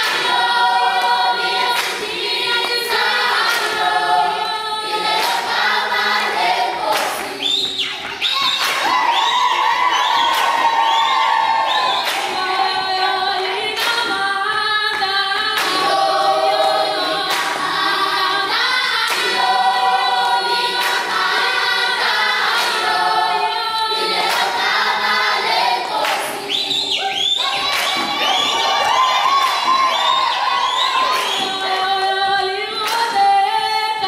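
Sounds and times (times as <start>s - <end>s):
children's choir singing: 0.0s - 34.0s.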